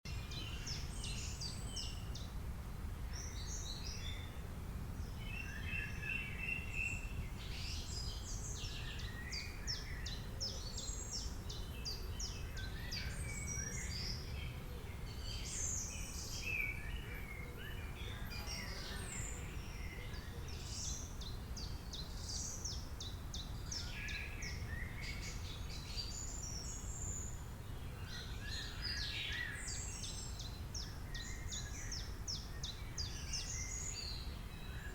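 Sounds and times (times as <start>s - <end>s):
birds chirping and trilling: 5.0s - 34.9s.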